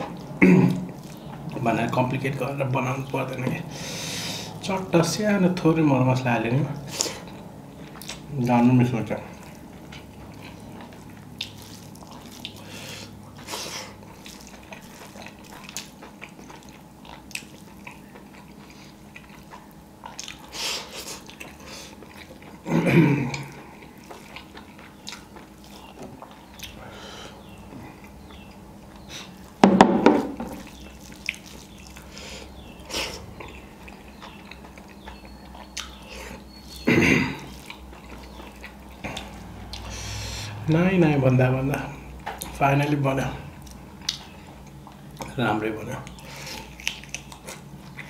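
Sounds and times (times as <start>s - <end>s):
chewing and lip-smacking: 0.0s - 3.7s, 6.7s - 22.7s, 23.3s - 26.8s, 30.5s - 40.6s, 41.7s - 42.6s, 43.4s - 48.0s.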